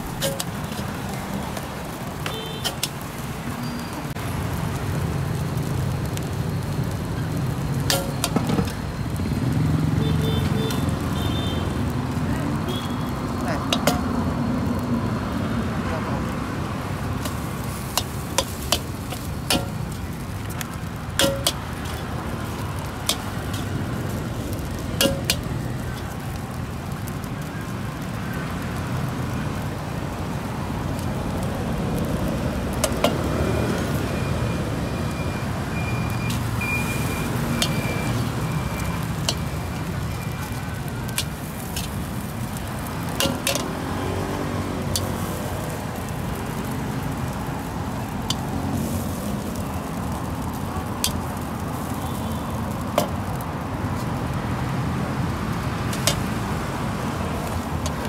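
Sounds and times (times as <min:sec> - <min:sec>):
road traffic rumble: 0:00.0 - 0:58.0
stir-frying sizzle: 0:00.0 - 0:58.0.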